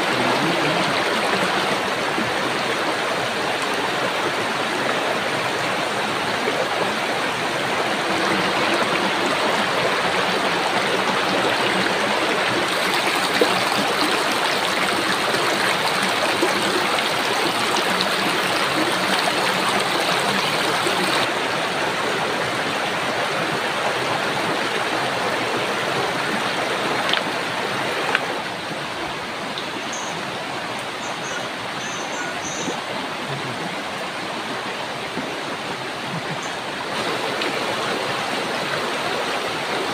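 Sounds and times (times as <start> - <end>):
river running over stones: 0.0 - 39.9.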